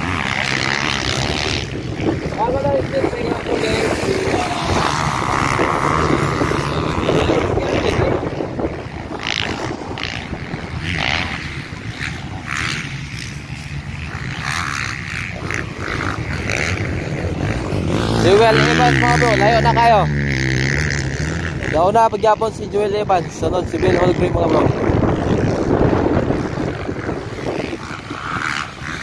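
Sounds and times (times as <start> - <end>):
motocross bike engines: 0.0 - 29.0
wind on microphone: 0.0 - 29.0.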